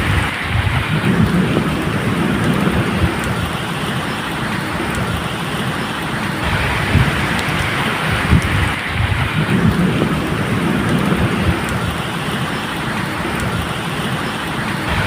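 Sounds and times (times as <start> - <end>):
distant thunder rumbling: 0.0 - 15.0
steady rain: 0.0 - 15.0.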